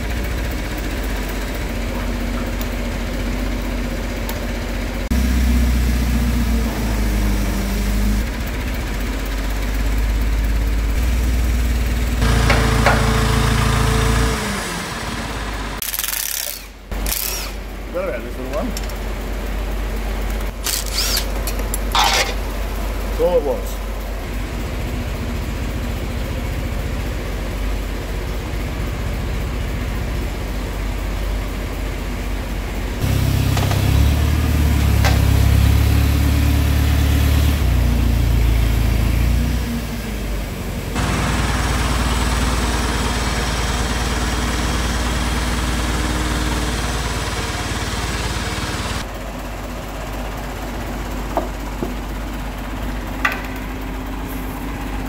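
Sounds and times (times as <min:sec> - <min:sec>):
forklift engine running: 0:00.0 - 0:55.0.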